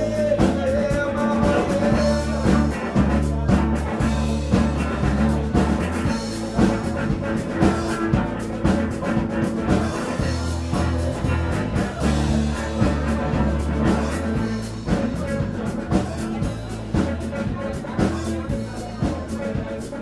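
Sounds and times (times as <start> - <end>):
held bass notes: 0.0 - 20.0
steady drum beat: 0.0 - 20.0.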